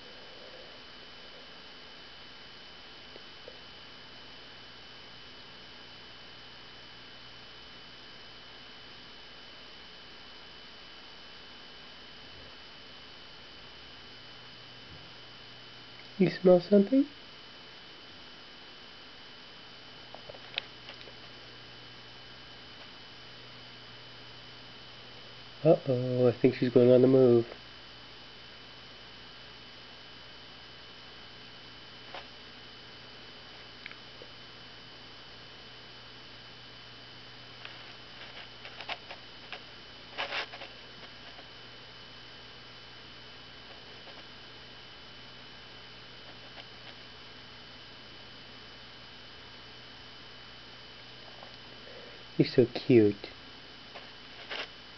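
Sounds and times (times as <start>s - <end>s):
electrical hum with high whine: 0.0s - 54.9s.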